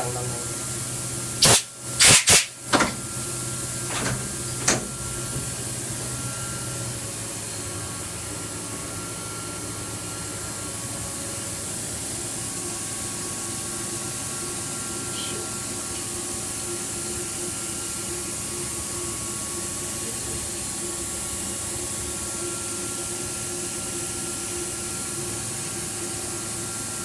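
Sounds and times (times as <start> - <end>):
machinery hissing and humming: 0.0 - 27.0.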